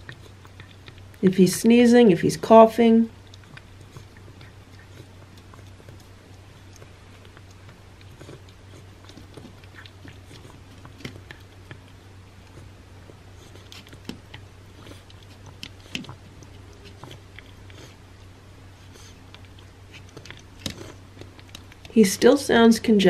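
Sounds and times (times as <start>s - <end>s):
wet smacks and tongue clicks: 0.0s - 1.2s, 3.1s - 22.0s
cat licking and eating: 0.0s - 22.5s
steady low hum: 0.0s - 23.0s.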